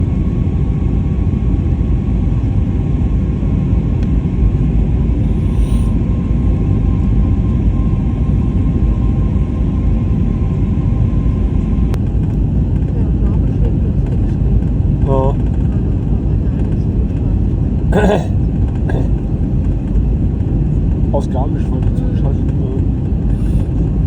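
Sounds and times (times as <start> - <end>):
faint jet engine whine: 0.0 - 24.0
jet engine rumble: 0.0 - 24.0.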